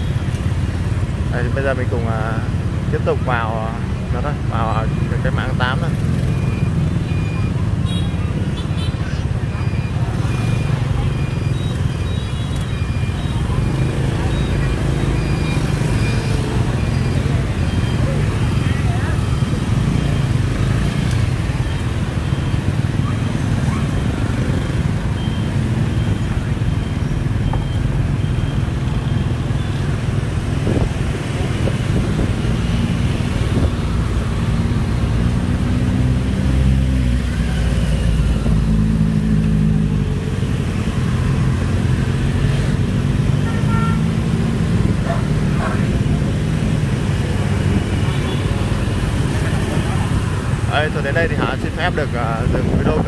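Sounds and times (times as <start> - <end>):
scooter and motorbike traffic: 0.0 - 53.0.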